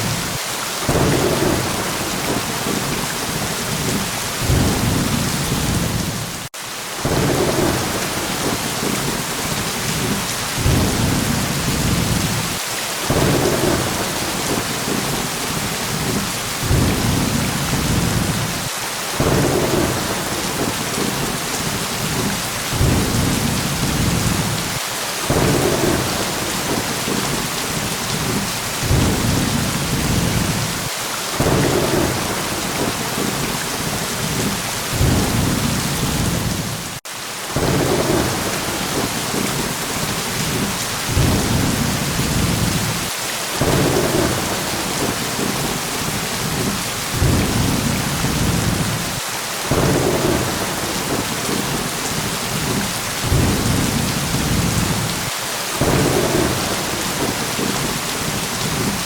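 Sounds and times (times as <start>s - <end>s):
heavy rain: 0.0s - 59.0s
thunder rumbling: 0.9s - 6.4s, 7.0s - 37.0s, 37.6s - 59.0s.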